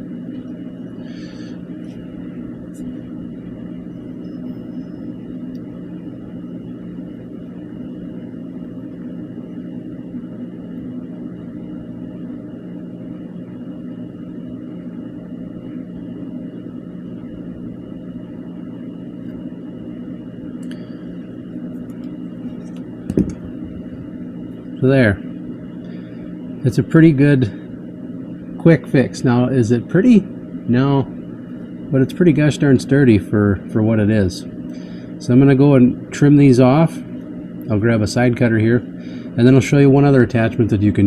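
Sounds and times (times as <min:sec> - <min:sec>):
faint high whine: 0:00.0 - 0:41.0
low mechanical hum: 0:00.0 - 0:41.0.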